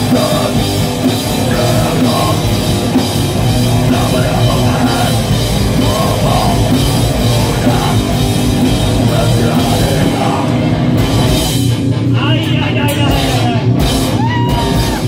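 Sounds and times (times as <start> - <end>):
loud metal band playing: 0.0 - 15.0.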